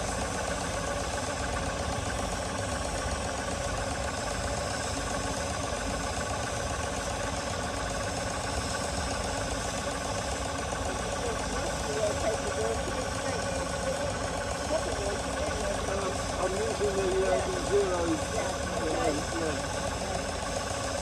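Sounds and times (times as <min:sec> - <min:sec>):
steam traction engine running: 0:00.0 - 0:21.0.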